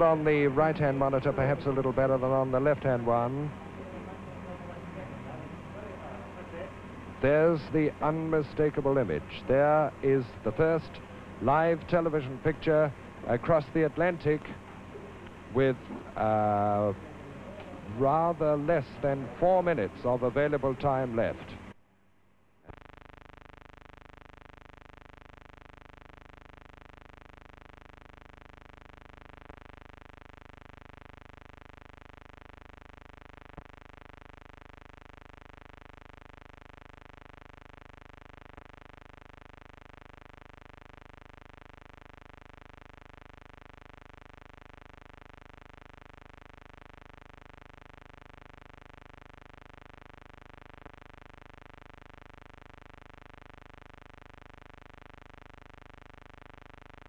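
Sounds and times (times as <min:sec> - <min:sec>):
electrical buzzing hum: 0:00.0 - 0:57.0.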